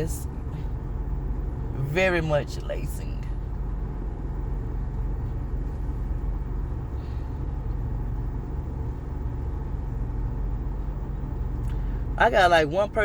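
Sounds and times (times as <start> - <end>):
air conditioning running: 0.0 - 13.0
truck idling: 0.0 - 13.0.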